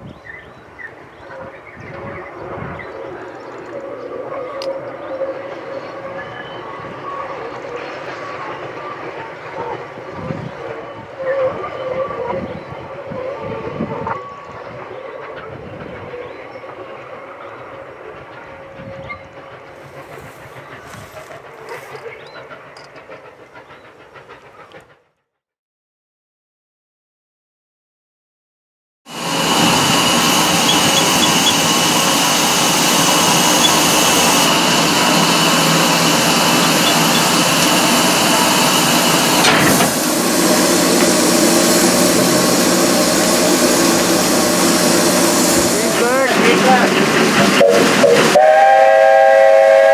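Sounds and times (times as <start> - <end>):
steam locomotive exhaust beats: 0.4 - 25.2, 29.1 - 49.9.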